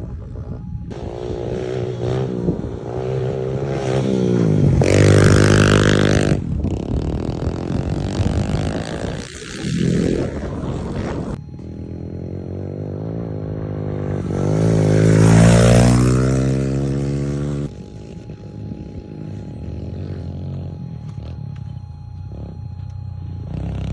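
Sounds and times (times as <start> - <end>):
off-road vehicle engine revving: 0.9 - 23.9.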